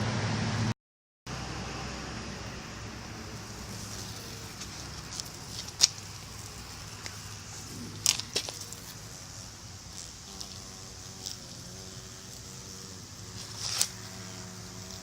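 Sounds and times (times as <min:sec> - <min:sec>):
outdoor background hiss: 0:01.3 - 0:15.0.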